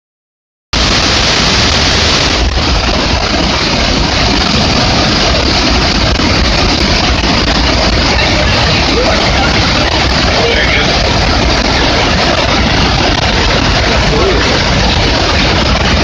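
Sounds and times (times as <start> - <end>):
floodwater pouring off a spillway: 0.8 - 16.0.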